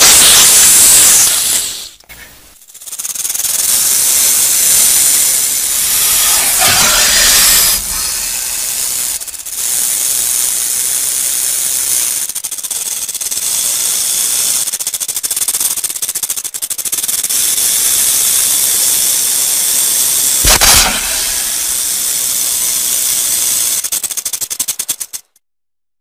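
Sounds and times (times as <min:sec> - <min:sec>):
rattlesnake rattle buzzing: 0:00.0 - 0:25.4.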